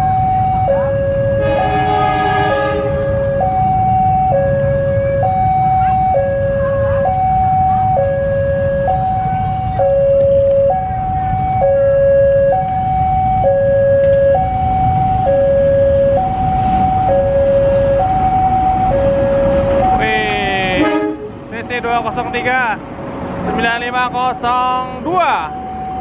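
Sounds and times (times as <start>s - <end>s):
level crossing two-tone alarm: 0.0s - 20.3s, 23.5s - 26.0s.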